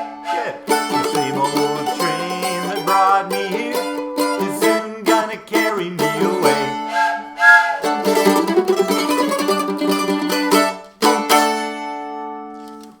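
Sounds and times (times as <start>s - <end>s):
mandolin tremolo strumming: 0.0s - 12.8s.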